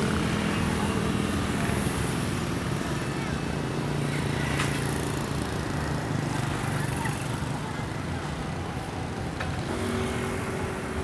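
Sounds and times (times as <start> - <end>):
motorbike and traffic engines: 0.0 - 11.0.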